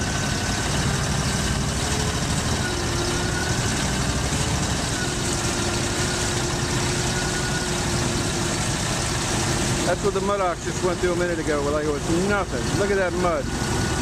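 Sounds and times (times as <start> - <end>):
vehicle engine running: 0.0 - 14.0
water and mud churning: 0.0 - 14.0.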